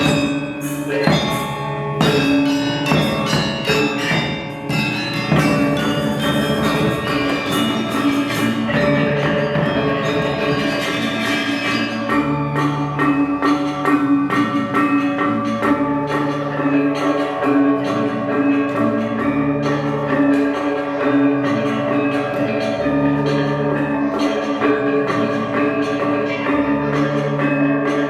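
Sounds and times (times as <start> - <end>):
gamelan ensemble playing: 0.0 - 28.0.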